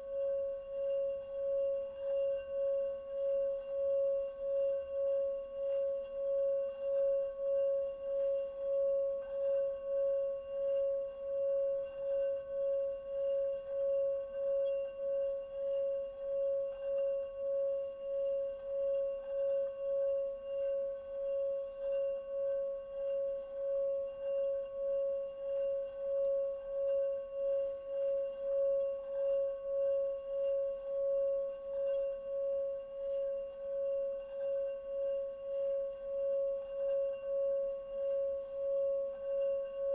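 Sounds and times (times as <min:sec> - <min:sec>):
singing bowl ringing: 0:00.0 - 0:39.9.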